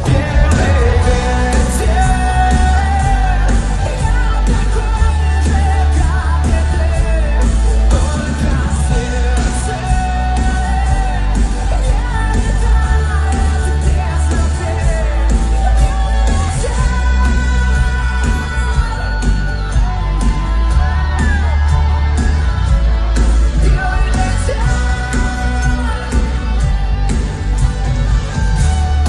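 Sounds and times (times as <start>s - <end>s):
person singing: 0.0s - 29.0s
pop song with heavy bass beat: 0.0s - 29.0s.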